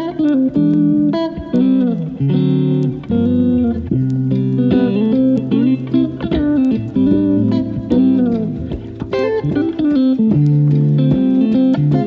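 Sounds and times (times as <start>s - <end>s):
plucked guitar: 0.0s - 12.0s
bass line: 0.6s - 12.0s.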